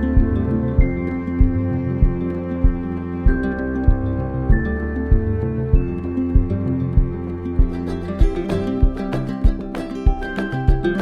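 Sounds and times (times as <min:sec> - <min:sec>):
soft new-age music: 0:00.0 - 0:11.0.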